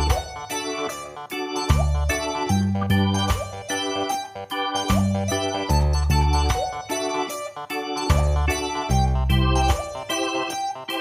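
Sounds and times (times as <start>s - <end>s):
bass line: 0.0s - 6.9s, 8.0s - 10.1s
repeated chords music: 0.0s - 11.0s.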